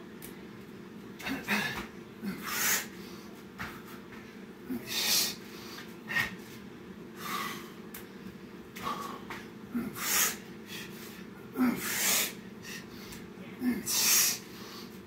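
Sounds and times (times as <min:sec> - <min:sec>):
steady low hum: 0:00.0 - 0:15.0
man breathing hard: 0:01.2 - 0:15.0.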